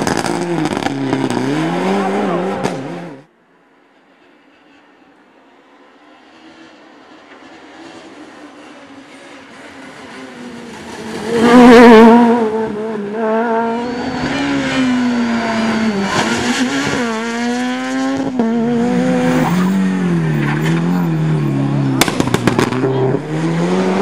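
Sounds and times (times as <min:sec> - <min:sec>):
rally car engines revving: 0:00.0 - 0:03.3, 0:06.2 - 0:24.0
rally car passing at full throttle: 0:00.0 - 0:03.3, 0:04.5 - 0:24.0.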